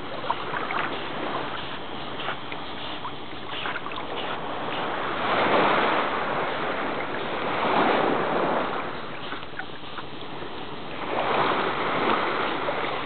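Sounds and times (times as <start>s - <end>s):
sea water sloshing and splashing: 0.0s - 13.0s.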